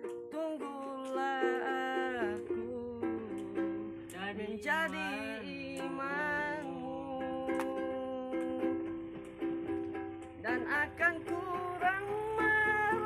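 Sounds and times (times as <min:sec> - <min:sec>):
person singing: 0:00.0 - 0:13.0
ukulele plucked notes: 0:00.0 - 0:13.0.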